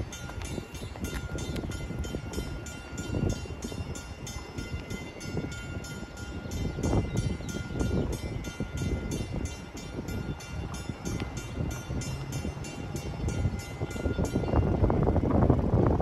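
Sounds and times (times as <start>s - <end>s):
warning bell ringing rapidly: 0.0s - 14.9s.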